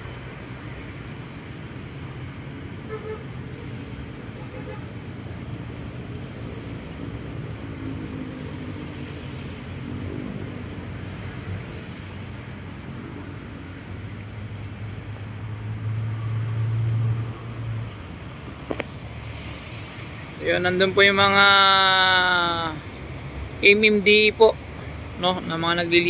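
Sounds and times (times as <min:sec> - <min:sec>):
distant traffic rumble: 0:00.0 - 0:26.0
low engine drone: 0:00.0 - 0:26.0.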